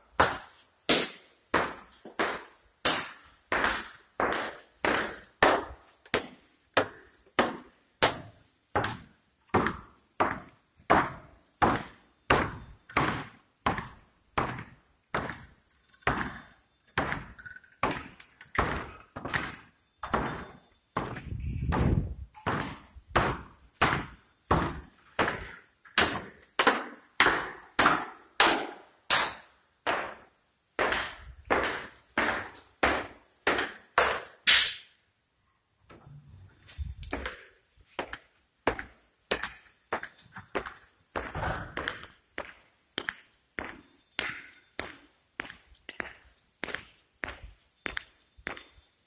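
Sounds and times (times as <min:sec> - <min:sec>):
echoing footsteps on hard floor: 0:00.4 - 0:28.2, 0:29.9 - 0:34.0, 0:36.6 - 0:48.8.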